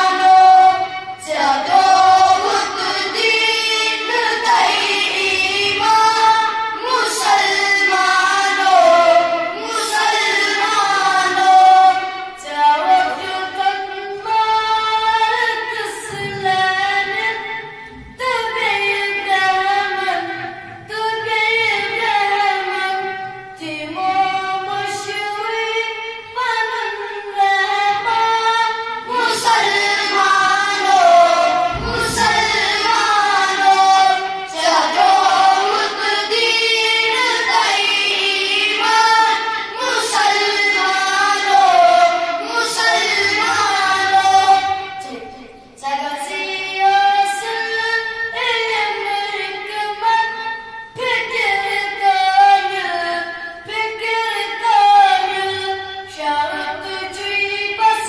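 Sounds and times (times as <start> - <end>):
boys singing devotional poem: 0.0 - 58.0.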